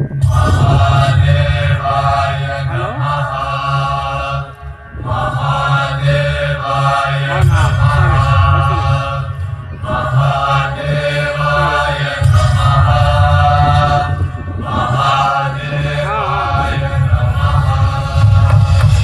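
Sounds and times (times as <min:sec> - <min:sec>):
low steady drone: 0:00.0 - 0:19.0
voices chanting in unison: 0:00.0 - 0:19.0.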